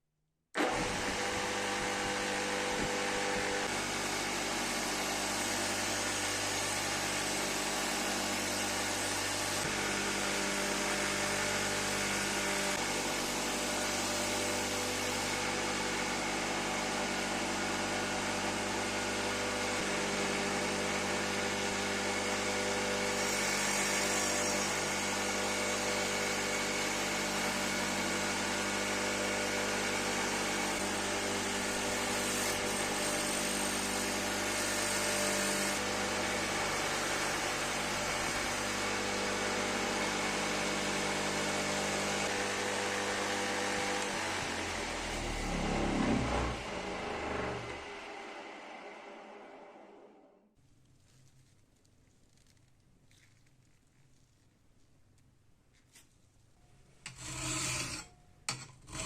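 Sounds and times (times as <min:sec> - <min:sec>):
electric power tool running: 0:00.6 - 0:50.2.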